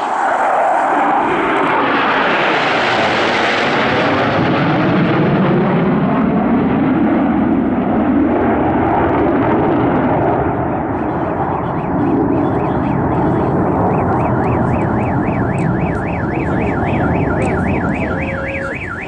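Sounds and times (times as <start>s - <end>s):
jet engines passing overhead: 0.0s - 19.0s.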